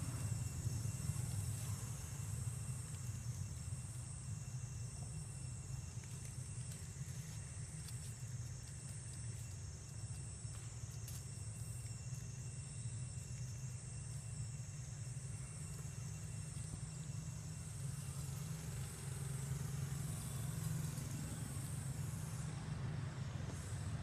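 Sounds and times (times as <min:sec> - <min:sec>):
insect chorus shrill drone: 0:00.0 - 0:24.0
steady low rumble: 0:00.0 - 0:24.0.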